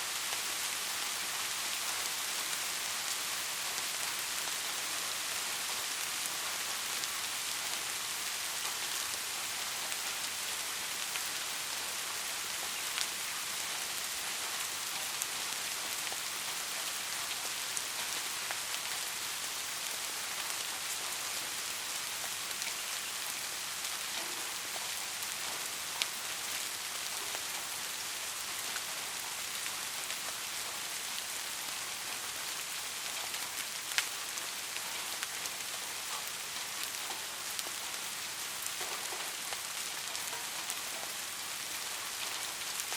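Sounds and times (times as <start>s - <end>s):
rain pattering: 0.0s - 42.9s.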